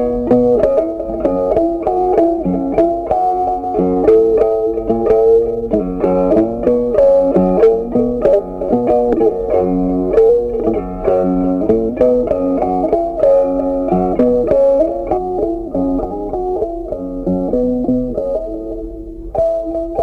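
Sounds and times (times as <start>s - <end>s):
plucked guitar tune: 0.0s - 20.0s.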